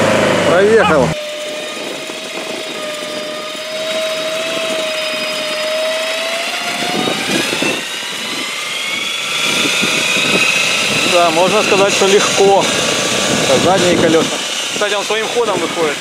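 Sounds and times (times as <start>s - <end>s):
buggy engine whining under load: 0.0s - 16.0s.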